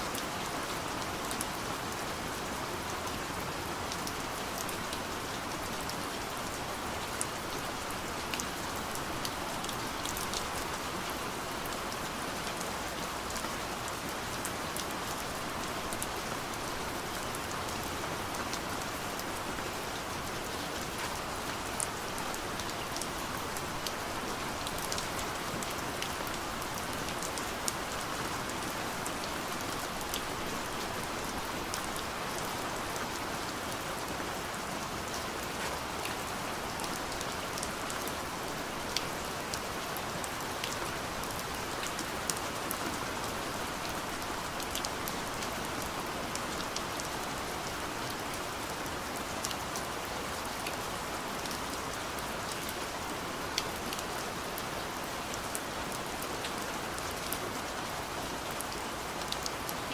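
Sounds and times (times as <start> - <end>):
rain hissing on a window: 0.0 - 59.9.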